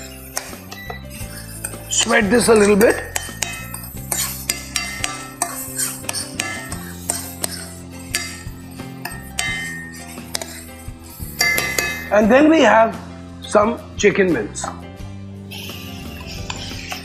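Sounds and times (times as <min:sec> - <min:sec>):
utensil scraping in frying pan: 0:00.0 - 0:12.2, 0:15.5 - 0:17.0
background music: 0:00.0 - 0:17.0.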